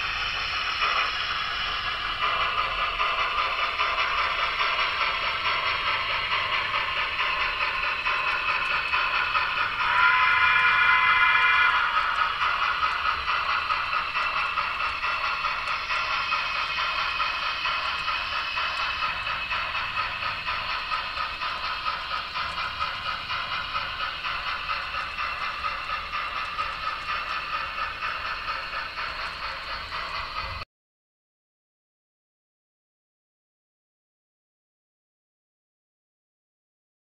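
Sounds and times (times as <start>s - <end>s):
model steam locomotive chuffing: 0.0s - 30.7s.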